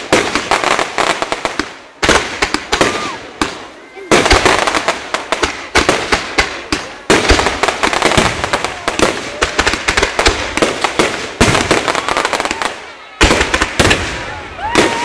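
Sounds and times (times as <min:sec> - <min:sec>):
firework bangs: 0:00.0 - 0:15.0
fireworks crackling: 0:00.0 - 0:15.0.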